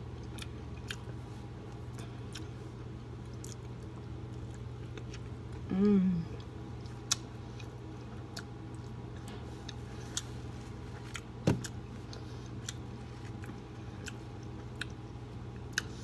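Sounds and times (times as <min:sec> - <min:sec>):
close-up chewing: 0:00.0 - 0:05.7, 0:06.4 - 0:16.0
steady low hum: 0:00.0 - 0:16.0.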